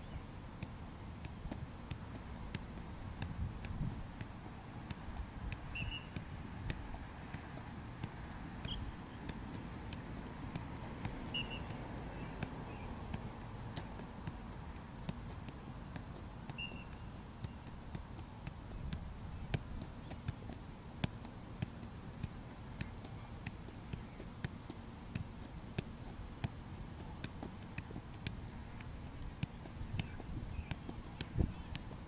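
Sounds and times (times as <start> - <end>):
soccer ball thumps: 0.0 - 32.0.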